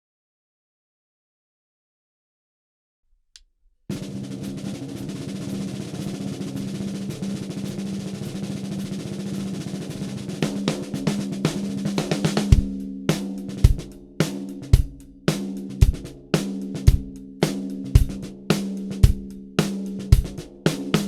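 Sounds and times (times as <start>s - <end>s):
snare drum roll and strokes: 3.9s - 21.0s.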